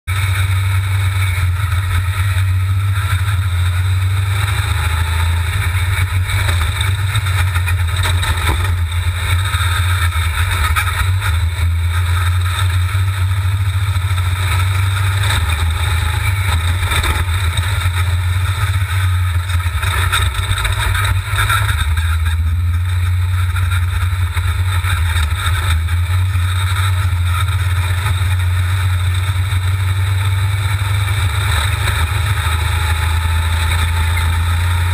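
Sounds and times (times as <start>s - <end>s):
sand rail engine running: 0.1s - 34.9s.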